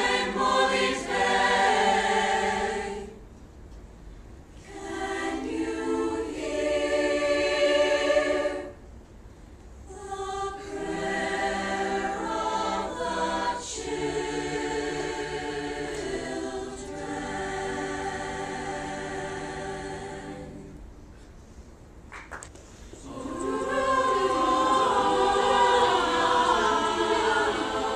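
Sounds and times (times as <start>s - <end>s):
choir of young voices singing: 0.0s - 3.2s, 4.6s - 8.9s, 9.9s - 20.9s, 22.9s - 27.9s.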